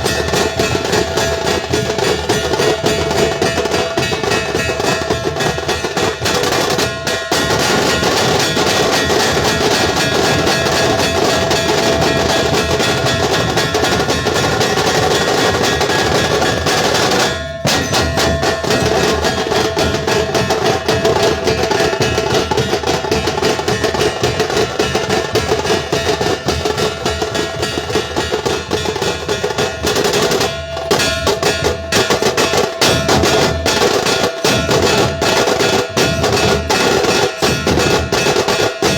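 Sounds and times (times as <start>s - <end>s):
barrel drums: 0.0s - 38.9s
fast rolling drums: 0.0s - 38.9s.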